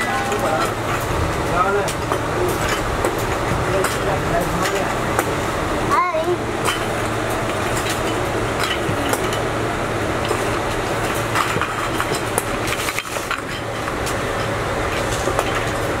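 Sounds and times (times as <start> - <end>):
workshop machinery hum: 0.0 - 16.0.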